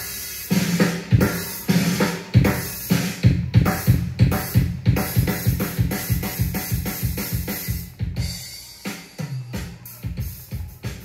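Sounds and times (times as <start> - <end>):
music with heavy bass-drum beat: 0.0 - 11.0.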